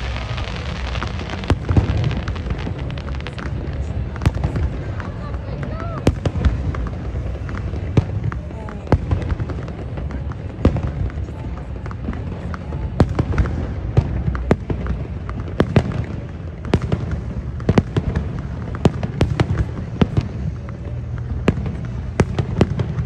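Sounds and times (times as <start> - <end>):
constant low rumble: 0.0 - 23.0.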